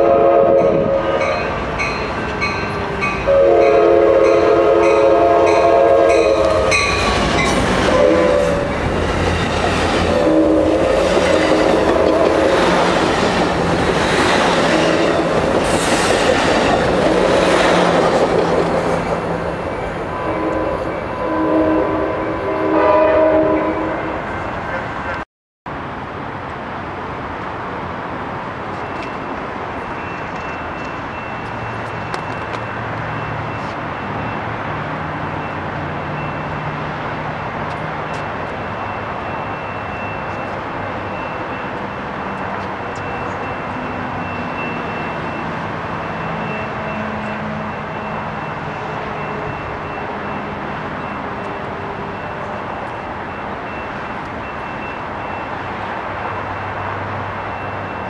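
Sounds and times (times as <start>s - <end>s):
distant train rumble and hiss: 0.0s - 58.0s.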